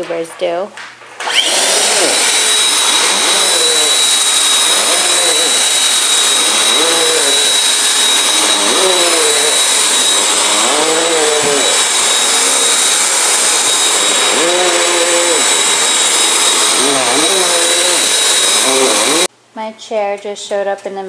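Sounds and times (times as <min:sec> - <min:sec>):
vacuum cleaner running: 0:01.2 - 0:19.3.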